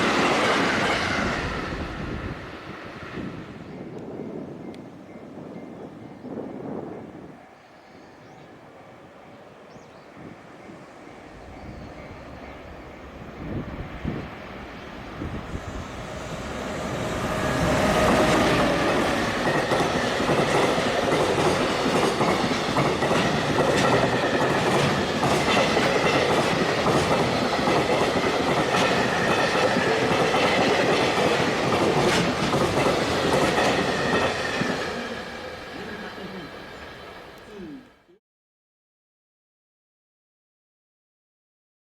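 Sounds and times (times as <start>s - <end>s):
freight train passing: 0.0s - 38.1s.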